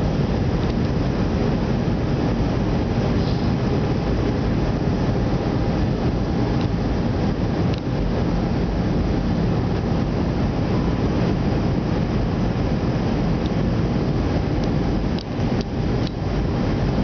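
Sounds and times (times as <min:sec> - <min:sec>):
airliner cabin engine rush: 0:00.0 - 0:17.0.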